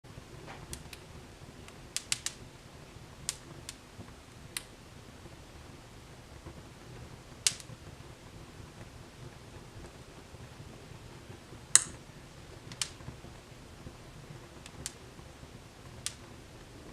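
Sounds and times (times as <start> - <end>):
fire crackling and popping: 0.0 - 16.9
low rumble of flames: 0.0 - 16.9.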